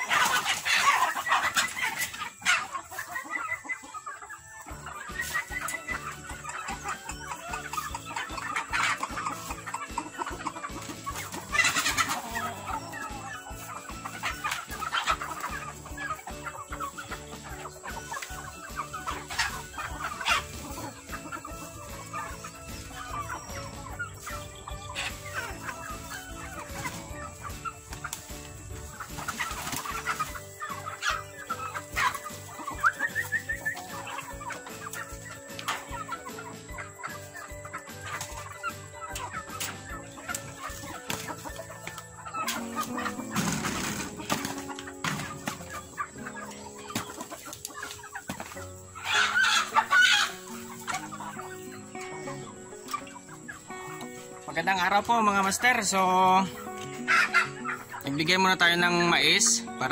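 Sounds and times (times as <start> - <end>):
chickens clucking and calling: 0.0 - 59.9.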